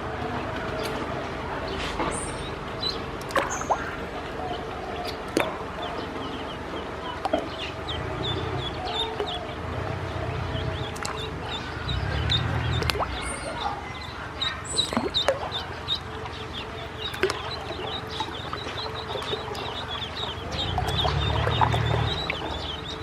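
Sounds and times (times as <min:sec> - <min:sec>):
steady noisy wash: 0:00.0 - 0:23.0
ducklings peeping: 0:00.6 - 0:23.0.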